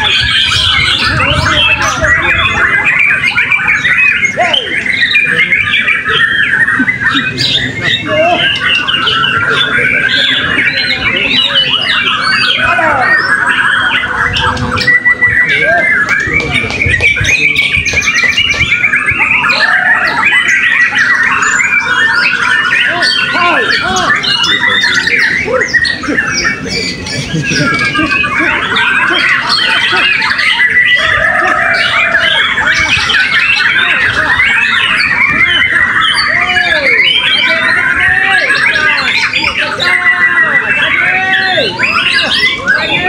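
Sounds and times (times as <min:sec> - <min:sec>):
birds singing in chorus: 0:00.0 - 0:43.0.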